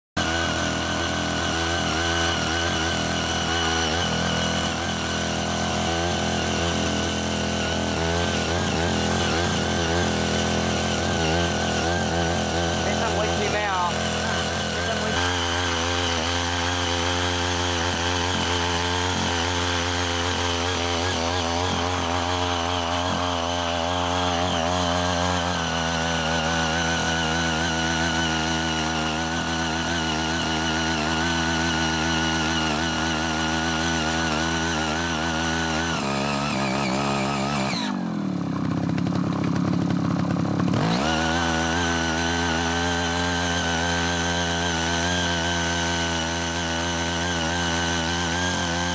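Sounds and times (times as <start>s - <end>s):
tiller engine running: 0.0s - 48.9s
tines churning soil: 0.2s - 48.9s.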